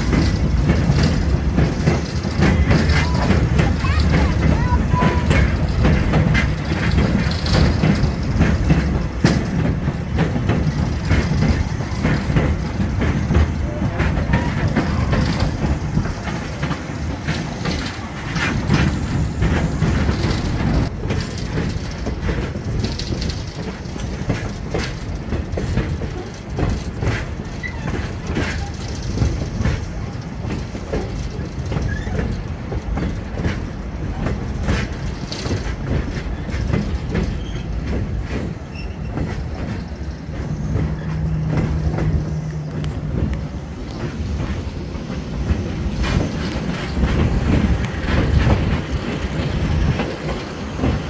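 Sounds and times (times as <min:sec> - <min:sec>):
train rumbling along track: 0:00.0 - 0:51.0
wheels clicking on rails: 0:00.0 - 0:51.0.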